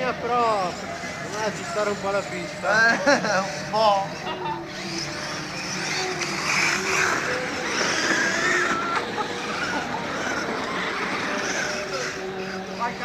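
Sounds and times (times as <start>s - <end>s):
electric motors whining: 0.0s - 13.0s
tyres churning through snow: 0.0s - 13.0s.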